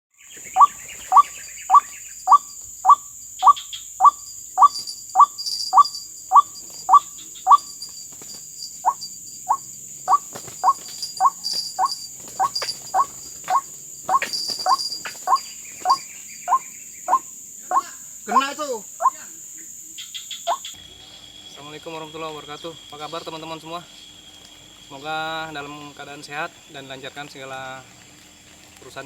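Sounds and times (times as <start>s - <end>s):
crickets droning: 0.1s - 29.0s.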